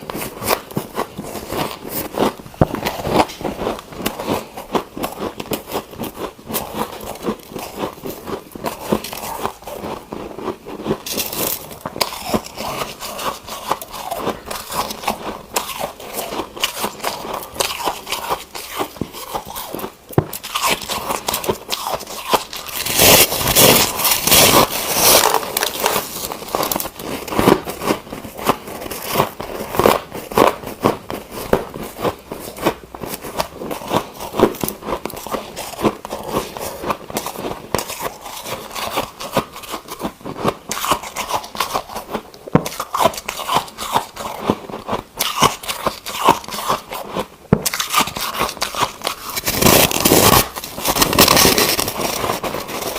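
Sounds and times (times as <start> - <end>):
ice crunching while chewed: 0.0 - 52.9.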